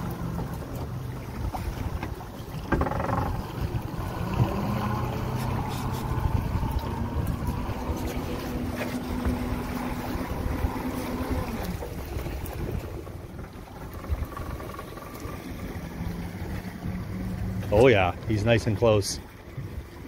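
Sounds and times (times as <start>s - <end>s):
wind buffeting microphone: 0.0s - 18.8s
boat engine humming: 0.0s - 20.0s.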